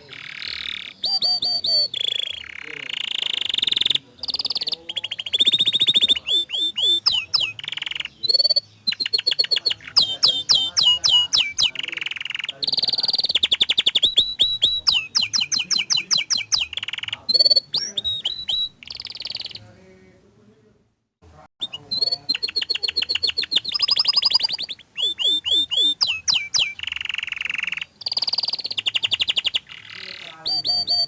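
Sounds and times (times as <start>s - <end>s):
canary singing trills: 0.0s - 19.8s, 21.6s - 31.0s.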